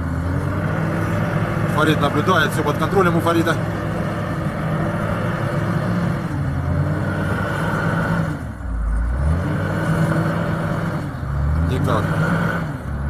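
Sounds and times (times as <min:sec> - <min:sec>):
vehicle engine straining: 0:00.0 - 0:13.0.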